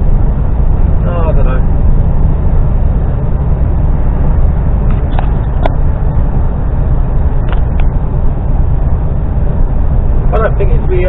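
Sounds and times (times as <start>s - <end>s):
lorry engine and road noise: 0.0s - 11.0s.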